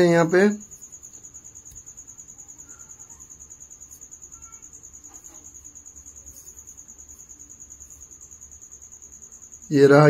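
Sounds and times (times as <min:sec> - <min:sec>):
cricket chirping: 0:00.0 - 0:10.0.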